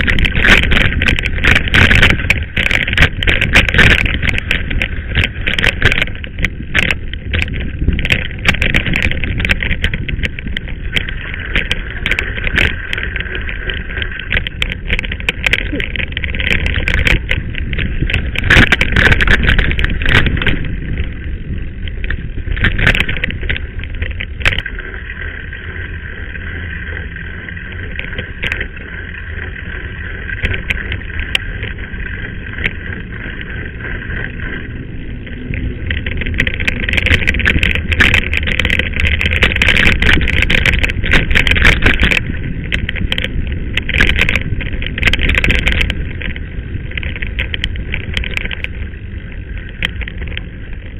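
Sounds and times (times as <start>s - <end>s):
bike rattling over stones: 0.0s - 50.9s
wind rushing over microphone: 0.0s - 50.9s.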